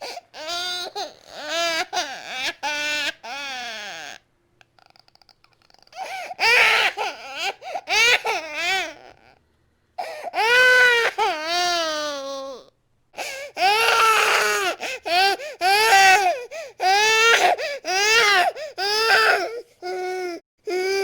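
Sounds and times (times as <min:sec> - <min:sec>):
infant crying: 0:00.0 - 0:04.2, 0:05.9 - 0:09.4, 0:10.0 - 0:21.0.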